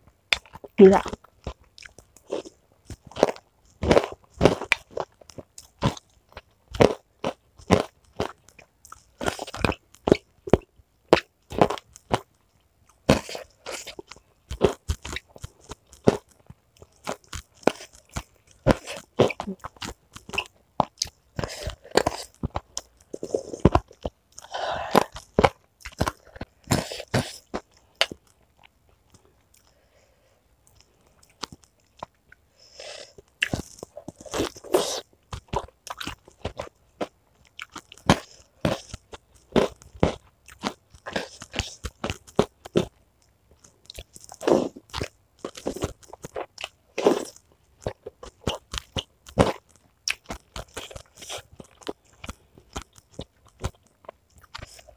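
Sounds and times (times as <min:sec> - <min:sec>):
chewing crispy fried chicken: 0:00.3 - 0:54.9.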